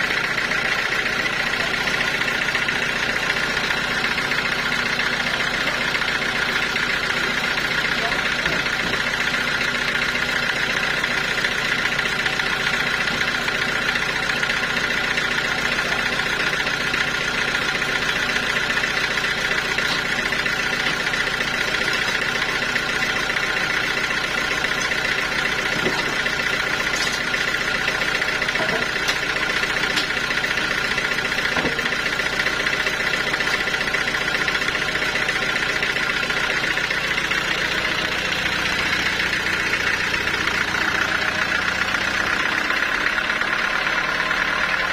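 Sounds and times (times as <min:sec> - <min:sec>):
sawmill machinery drone: 0:00.0 - 0:44.9.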